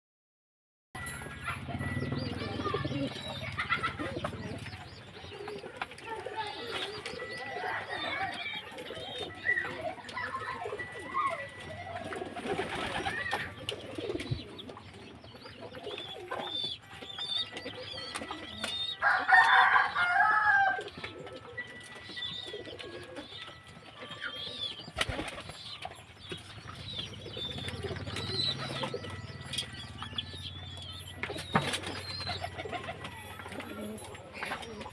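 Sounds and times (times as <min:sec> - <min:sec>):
pigeons cooing: 0:01.4 - 0:34.9.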